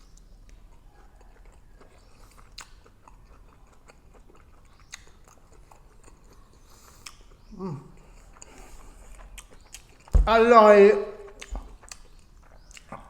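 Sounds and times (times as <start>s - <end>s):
person chewing food: 0.0s - 10.6s, 11.2s - 13.0s
mouth clicks and smacks: 0.1s - 10.3s, 11.2s - 13.0s.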